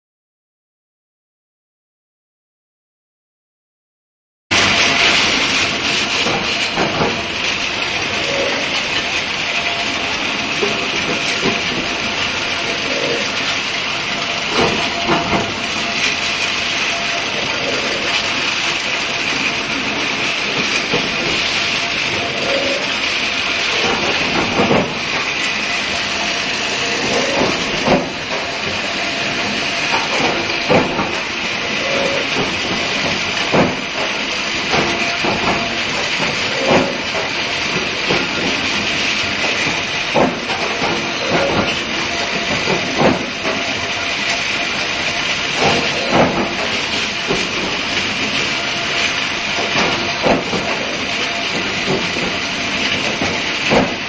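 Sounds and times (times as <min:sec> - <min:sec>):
loud steady hiss: 0:04.5 - 0:54.0.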